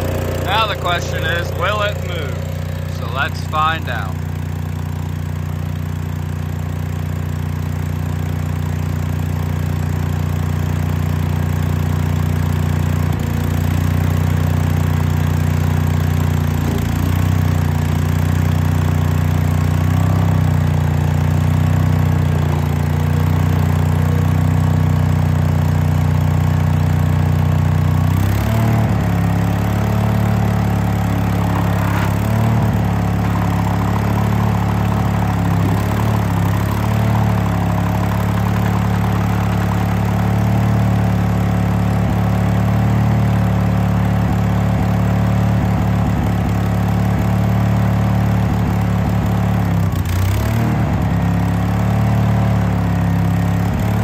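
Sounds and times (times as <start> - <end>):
small gasoline engine running: 0.0 - 54.0.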